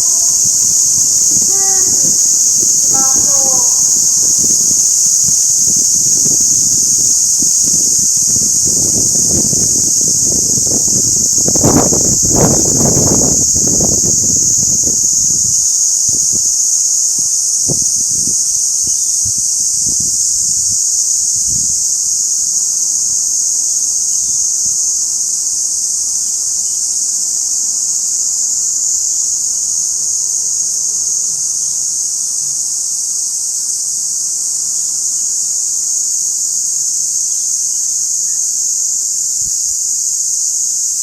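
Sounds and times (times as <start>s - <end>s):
cicadas buzzing: 0.0s - 41.0s.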